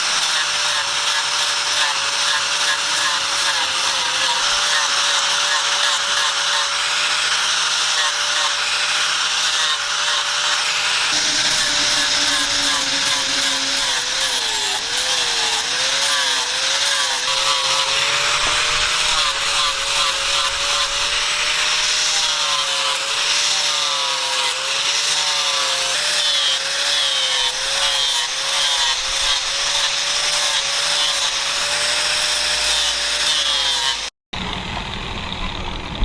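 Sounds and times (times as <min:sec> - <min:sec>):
power tool grinding: 0:00.0 - 0:34.1.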